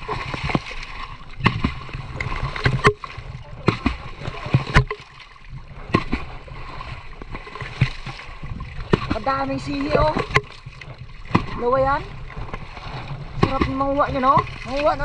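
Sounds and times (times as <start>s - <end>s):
knocks and splashes in water: 0.0s - 15.0s.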